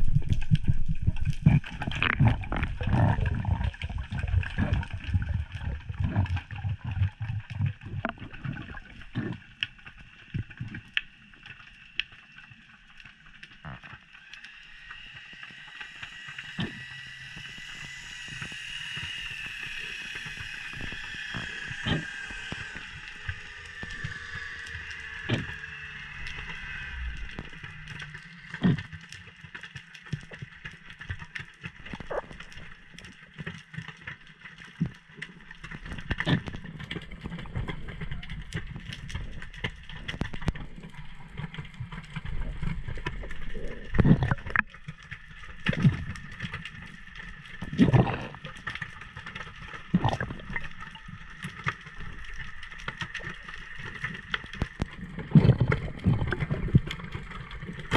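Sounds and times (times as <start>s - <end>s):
small underwater clicks: 0.0s - 57.9s
underwater rumble of water: 0.0s - 57.9s.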